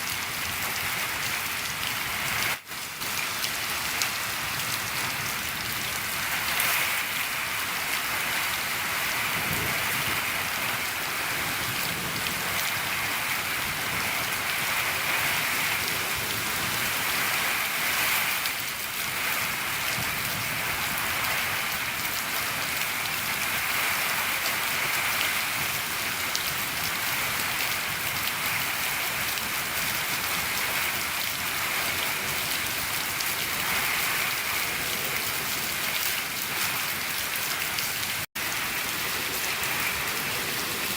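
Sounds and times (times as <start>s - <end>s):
rain on a shed roof: 0.0s - 40.9s.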